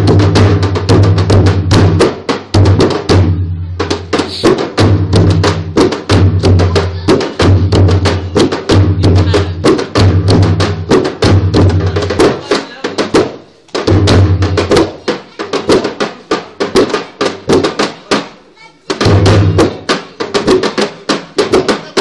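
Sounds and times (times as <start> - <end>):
barrel drums beaten by hand: 0.0 - 22.0.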